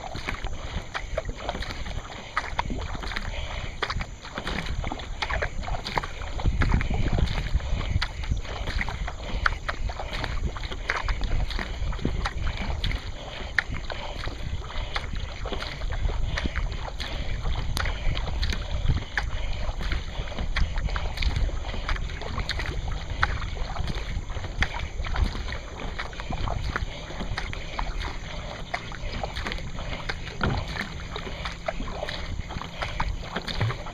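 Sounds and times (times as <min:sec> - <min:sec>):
short sharp splashes: 0:00.0 - 0:33.9
water rushing along boat hull: 0:00.0 - 0:33.9
wind rumbling on microphone: 0:00.0 - 0:33.9.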